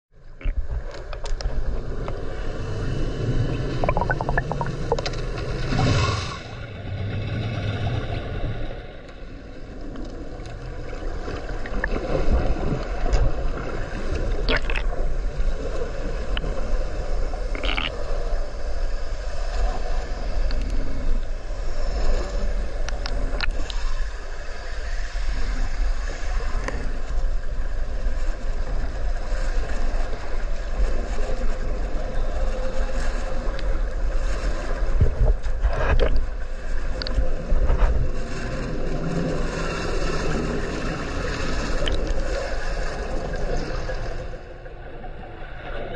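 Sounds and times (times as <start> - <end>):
underwater rumble and water wash: 0.1 - 45.9.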